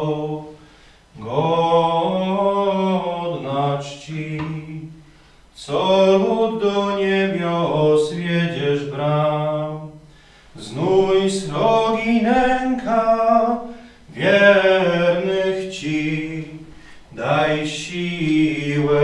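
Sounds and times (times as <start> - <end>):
man singing a hymn: 0.0 - 19.0.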